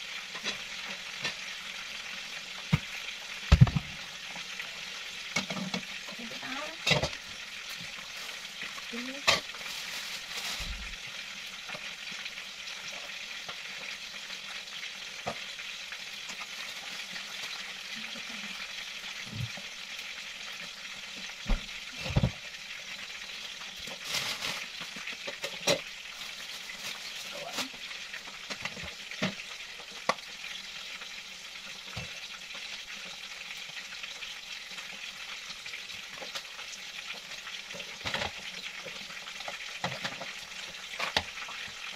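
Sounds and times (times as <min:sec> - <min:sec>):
chicken deep-frying in oil: 0:00.0 - 0:41.9.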